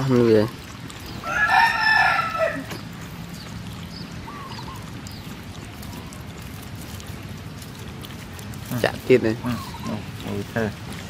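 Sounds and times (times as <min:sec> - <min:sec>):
puppies lapping milk: 0:00.0 - 0:11.0.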